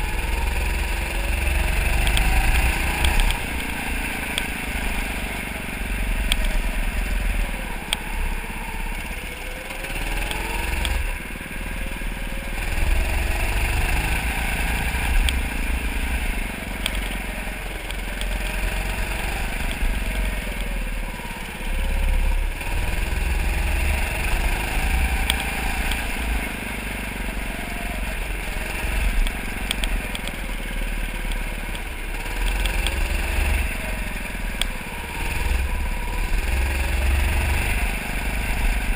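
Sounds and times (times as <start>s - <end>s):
go-kart motor running: 0.0s - 38.9s.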